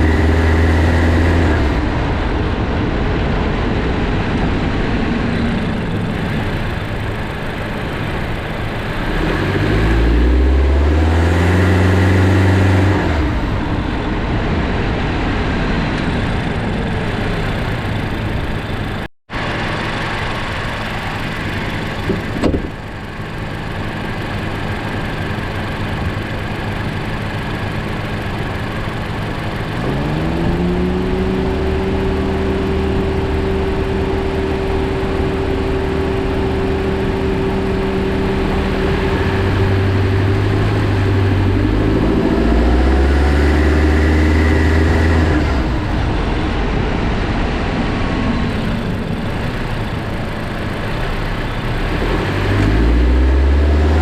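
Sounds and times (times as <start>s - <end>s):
car engine idling and accelerating: 0.0s - 54.0s.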